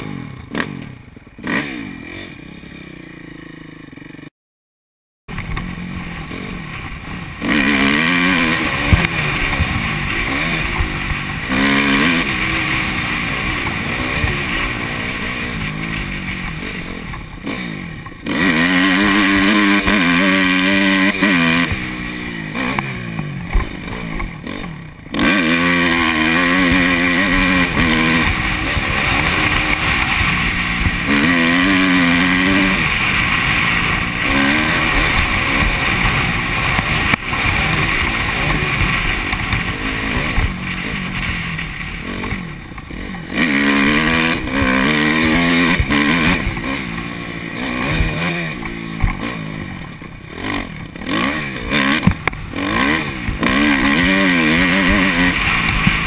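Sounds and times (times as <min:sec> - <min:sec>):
motorbike engine revving: 0:00.0 - 0:04.3, 0:05.3 - 0:56.0.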